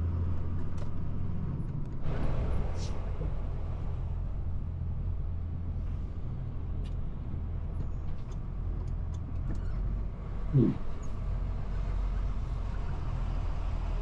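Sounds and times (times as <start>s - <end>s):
diesel truck engine rumble: 0.0s - 14.0s.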